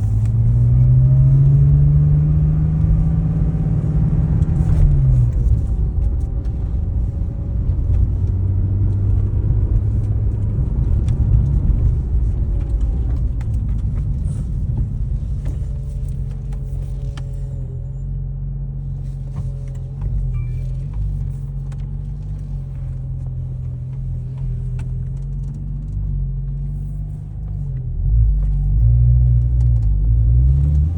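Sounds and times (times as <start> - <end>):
car engine idling: 0.0 - 28.8.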